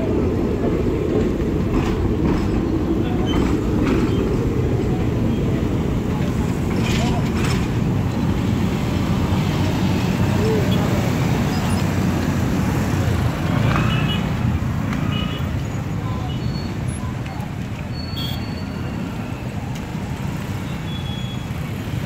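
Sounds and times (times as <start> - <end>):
slow train rumbling: 0.0 - 20.6
road traffic: 0.0 - 22.0.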